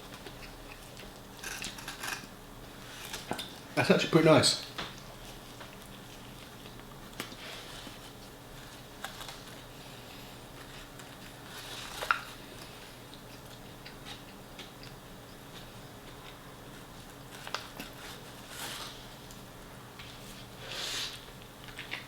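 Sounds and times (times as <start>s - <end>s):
person chewing food: 0.0s - 3.7s, 4.9s - 19.5s.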